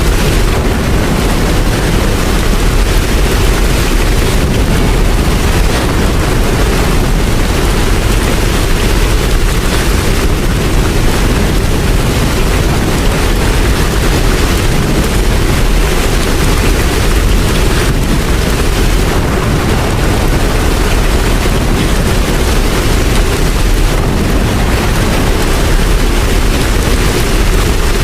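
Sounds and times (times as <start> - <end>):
low rumble: 0.0 - 28.0
steady rain: 0.0 - 28.0.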